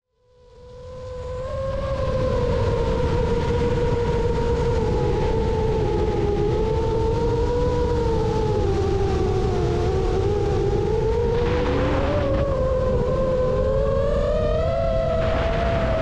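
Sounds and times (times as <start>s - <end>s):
drone motors whining: 1.0s - 16.0s.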